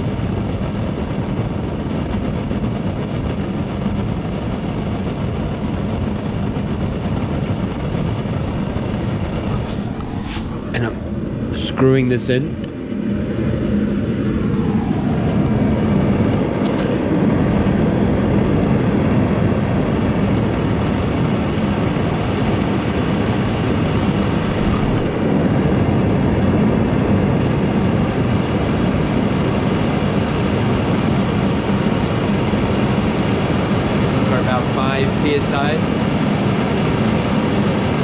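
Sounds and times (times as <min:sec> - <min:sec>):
propane burner roaring: 0:00.0 - 0:38.0.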